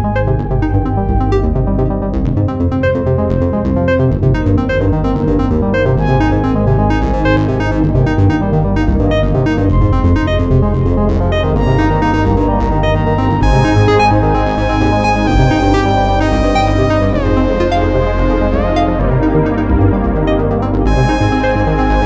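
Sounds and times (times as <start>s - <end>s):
synthesizer ringtone melody: 3.8s - 22.0s.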